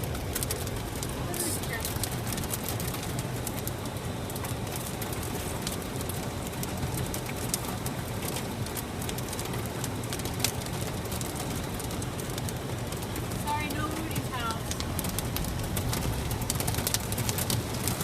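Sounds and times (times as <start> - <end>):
hailstones striking: 0.0 - 18.0
heavy rain falling: 0.0 - 18.0.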